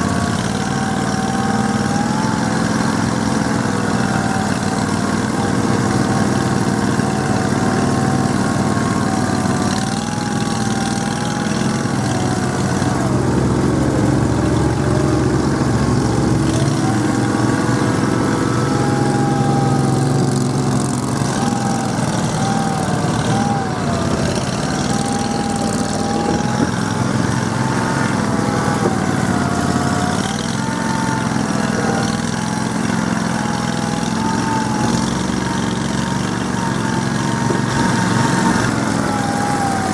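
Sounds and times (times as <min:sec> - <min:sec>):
amphibious vehicle engine whining: 0:00.0 - 0:39.9.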